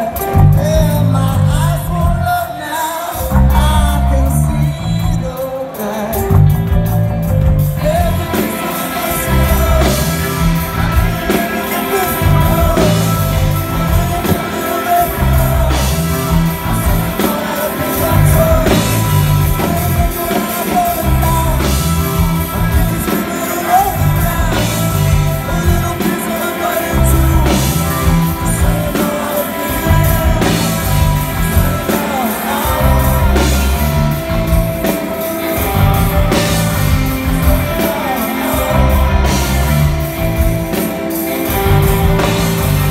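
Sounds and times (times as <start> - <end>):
man singing lead vocal: 0.0 - 42.9
rock band playing live: 0.0 - 42.9.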